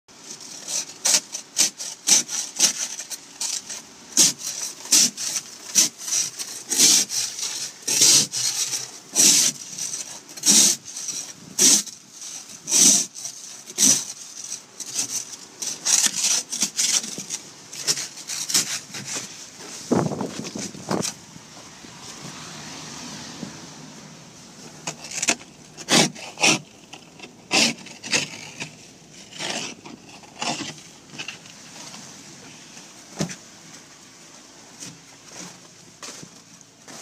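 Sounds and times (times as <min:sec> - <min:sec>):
hand scraping snow: 0:00.2 - 0:23.7, 0:24.4 - 0:33.0.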